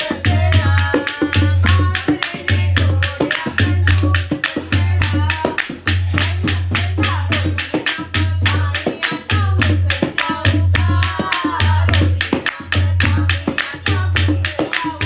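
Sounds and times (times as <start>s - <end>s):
deep drum beat: 0.0s - 15.0s
fast rhythmic hand clapping: 0.0s - 15.0s
women singing folk song: 0.0s - 15.0s.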